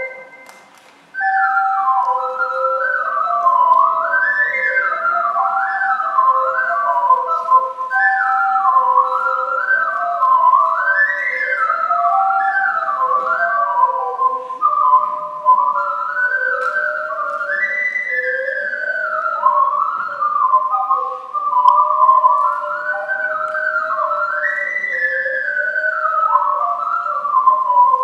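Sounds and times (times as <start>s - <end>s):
two ocarinas playing: 0.0s - 28.0s.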